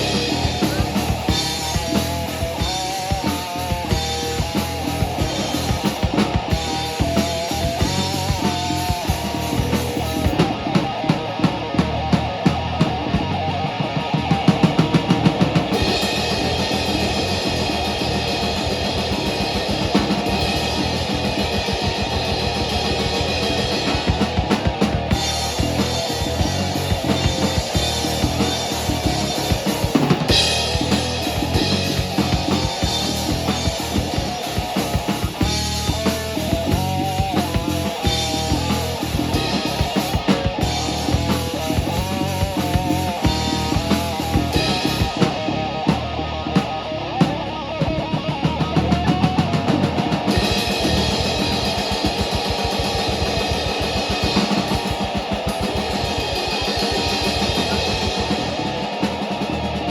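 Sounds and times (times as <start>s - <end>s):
drum kit steady beat: 0.0s - 59.9s
live band playing loud: 0.0s - 59.9s.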